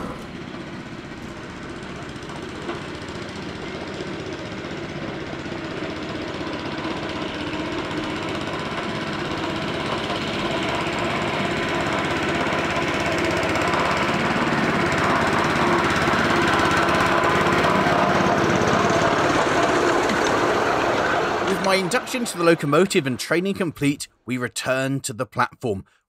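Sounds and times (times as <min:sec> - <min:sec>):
small petrol engine running: 0:00.0 - 0:23.6.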